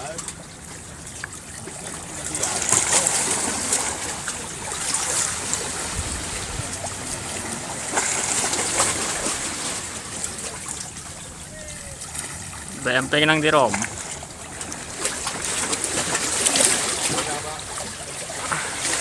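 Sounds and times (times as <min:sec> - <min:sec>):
sea waves splashing on rocks: 0:00.0 - 0:19.0.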